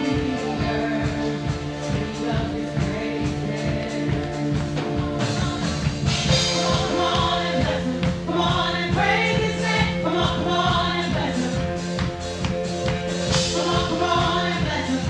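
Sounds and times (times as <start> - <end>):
band playing worship music: 0.0 - 15.0
voices singing together: 0.0 - 15.0.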